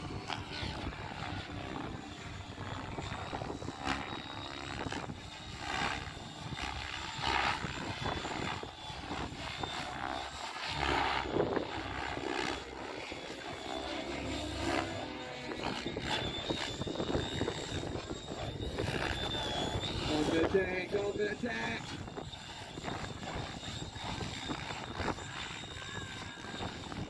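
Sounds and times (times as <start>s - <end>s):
model helicopter rotor and motor: 0.0s - 27.0s.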